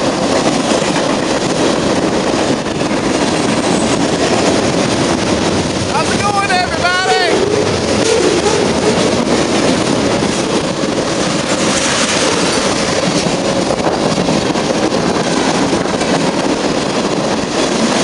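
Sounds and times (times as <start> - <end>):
train wheel clacks: 0.0 - 18.0
train wheels rumbling on rail: 0.0 - 18.0.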